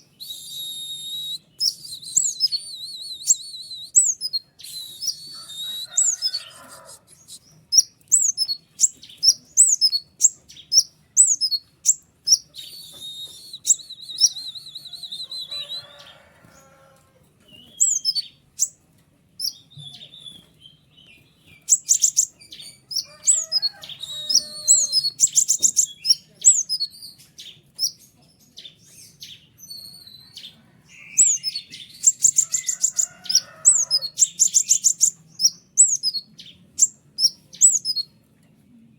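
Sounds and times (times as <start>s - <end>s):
bird chirping and twittering: 0.0s - 18.8s, 19.4s - 38.2s.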